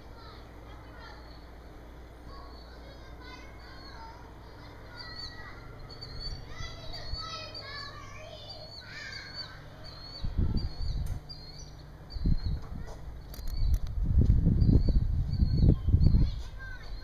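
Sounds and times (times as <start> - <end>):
faint low hum: 0.0 - 17.0
loud low rumbling bursts: 0.0 - 17.0
small birds chirping: 0.0 - 17.0.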